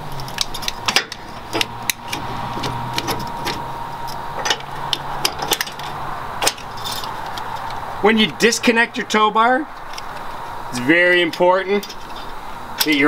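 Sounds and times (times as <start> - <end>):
steady low hum: 0.0 - 13.0
sharp metal clicks: 0.1 - 7.9, 9.7 - 13.0.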